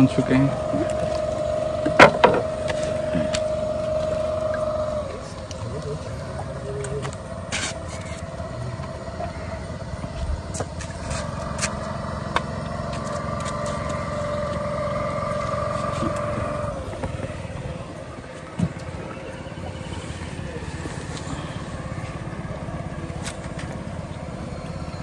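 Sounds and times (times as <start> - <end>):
small engine idling with whining hum: 0.0 - 25.0.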